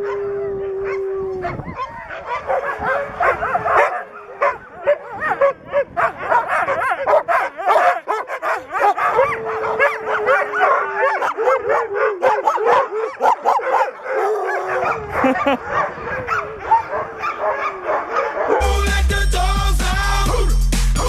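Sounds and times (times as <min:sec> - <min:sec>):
dog howling: 0:00.0 - 0:18.6
sled dogs barking and yelping: 0:00.0 - 0:18.6.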